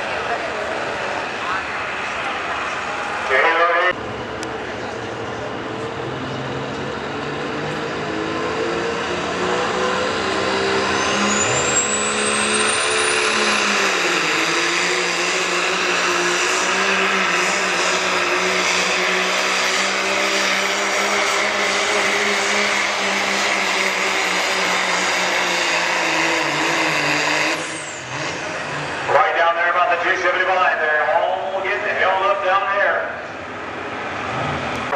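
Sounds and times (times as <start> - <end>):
diesel truck engine under full throttle: 0.0 - 34.9.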